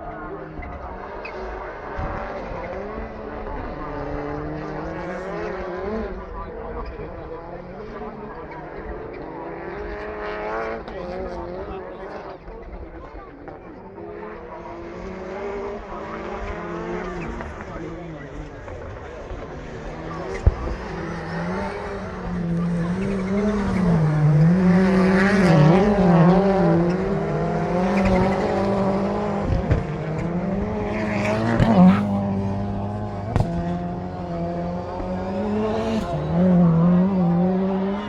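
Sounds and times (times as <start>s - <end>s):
race car engines revving: 0.0s - 38.0s.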